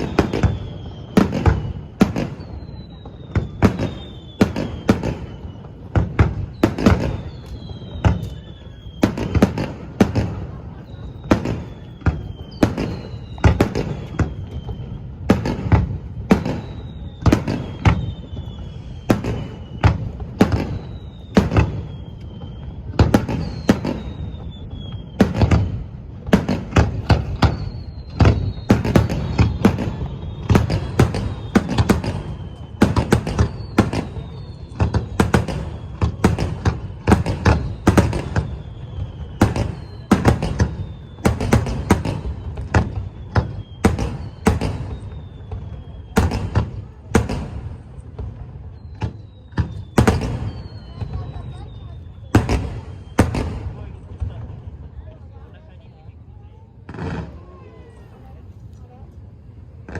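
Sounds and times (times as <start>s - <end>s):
fireworks bangs: 0.0s - 59.9s
whistling firework shells: 0.0s - 59.9s.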